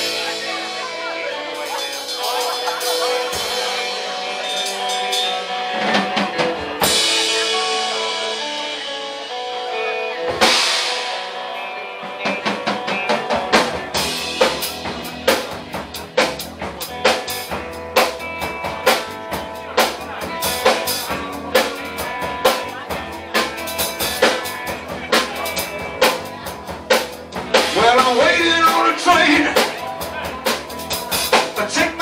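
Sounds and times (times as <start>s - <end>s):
drums and bass beat: 0.0s - 32.0s
electric guitar chords: 0.0s - 32.0s.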